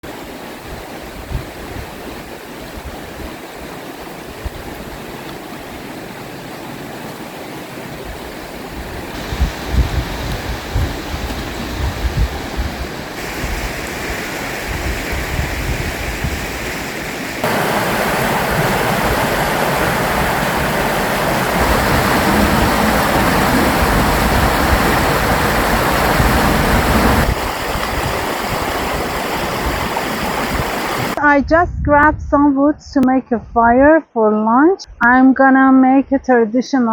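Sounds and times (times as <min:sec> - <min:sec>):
rushing water: 0:00.0 - 0:31.2.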